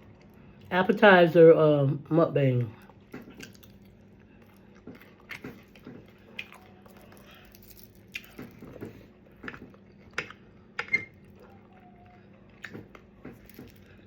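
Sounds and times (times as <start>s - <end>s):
person chewing food: 0.0s - 0.7s, 2.8s - 14.0s.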